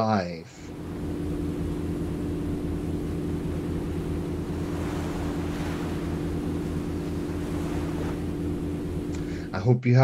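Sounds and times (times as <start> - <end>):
boat engine throbbing: 0.0 - 9.9
water rushing along hull: 0.7 - 9.6.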